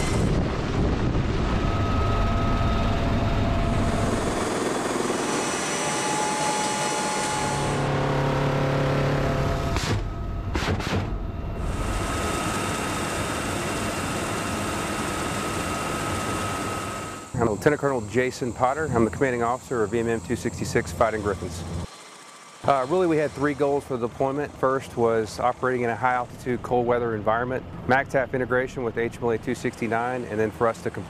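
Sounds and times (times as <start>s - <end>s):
helicopter rotor and turbine: 0.0s - 31.0s
high turbine whine: 0.0s - 31.0s.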